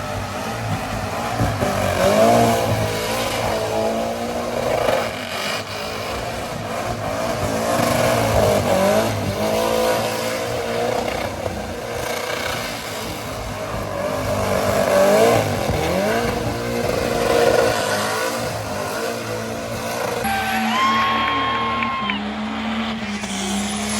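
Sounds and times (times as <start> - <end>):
diesel truck engine revving: 0.0 - 23.9.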